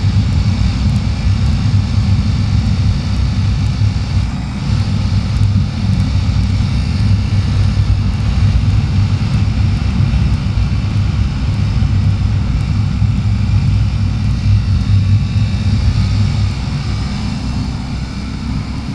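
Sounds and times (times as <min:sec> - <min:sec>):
motorcycle engine running: 0:00.0 - 0:18.9
wind rushing over microphone: 0:00.0 - 0:18.9.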